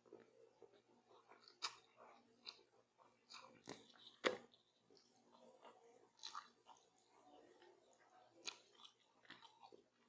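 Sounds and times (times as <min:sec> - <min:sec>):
chewing noodles: 0:00.0 - 0:10.0.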